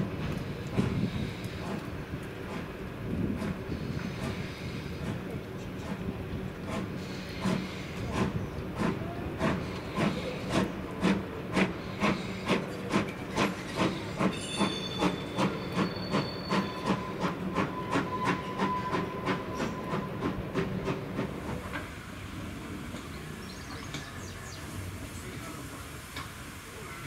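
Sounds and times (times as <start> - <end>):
steam locomotive chuffing: 0.0 - 27.0.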